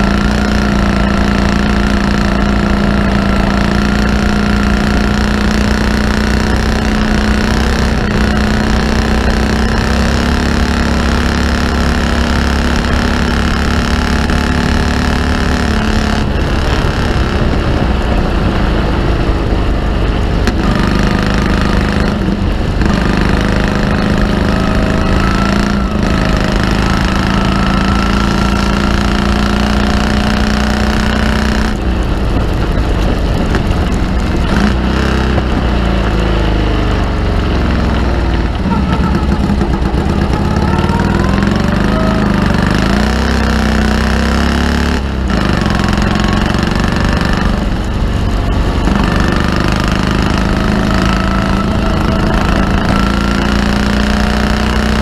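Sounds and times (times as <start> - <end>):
engine running hard at racing speed: 0.0 - 55.0.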